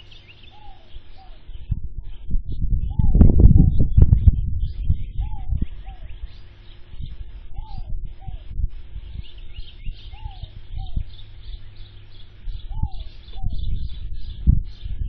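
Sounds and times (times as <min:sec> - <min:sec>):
birds calling: 0:00.0 - 0:15.0
high bird chirps: 0:00.0 - 0:15.0
low rumble: 0:00.0 - 0:15.0.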